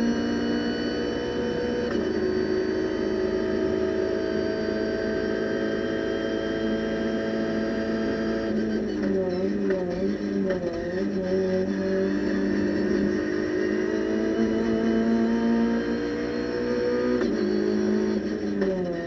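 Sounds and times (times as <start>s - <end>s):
gear shift pitch drop: 0.0s - 19.0s
race car engine at full throttle: 0.0s - 19.0s.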